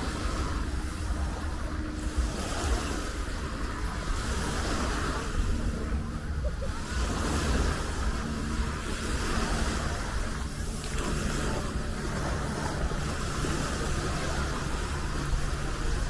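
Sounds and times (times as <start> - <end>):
small waves washing on sand: 0.0 - 16.0
wind buffeting microphone: 0.0 - 16.0.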